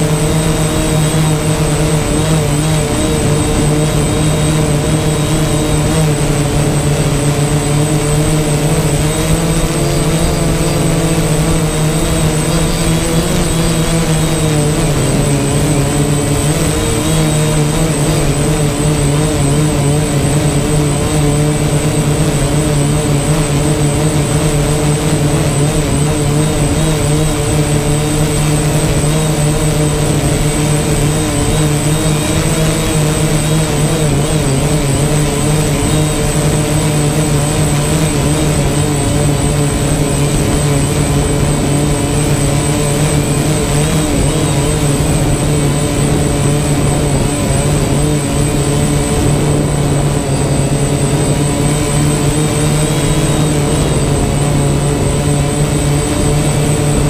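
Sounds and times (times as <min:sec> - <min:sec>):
drone propellers buzzing: 0:00.0 - 0:57.0
thin high whine: 0:00.0 - 0:57.0.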